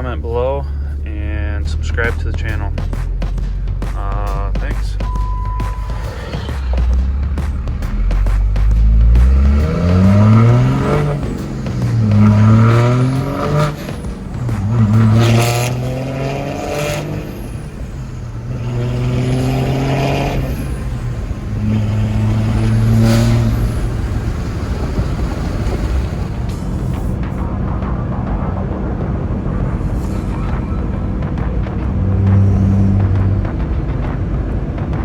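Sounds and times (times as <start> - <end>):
truck engine accelerating: 0.0 - 35.0.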